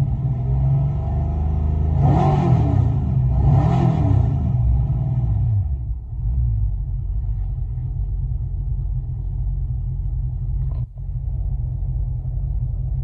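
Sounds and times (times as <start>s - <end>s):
car exhaust rumble: 0.0s - 13.0s.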